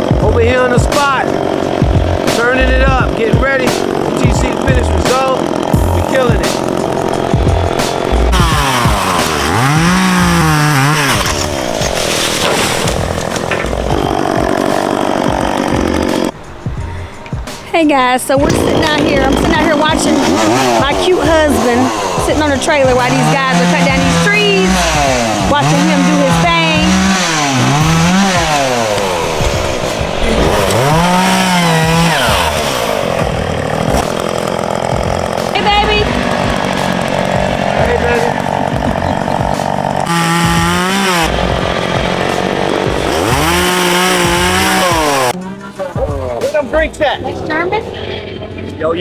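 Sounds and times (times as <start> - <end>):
chainsaw revving: 0.0 - 16.4, 18.4 - 45.4.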